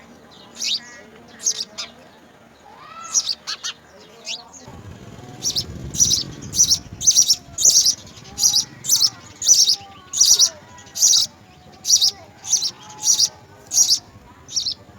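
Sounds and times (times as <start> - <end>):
sparrow chirping: 0.0 - 14.9.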